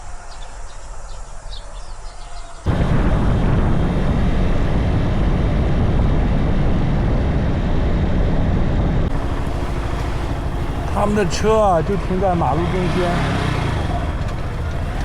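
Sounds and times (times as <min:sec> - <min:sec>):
motorcycle engine running: 0:02.7 - 0:15.0
wind and road noise: 0:02.7 - 0:15.0.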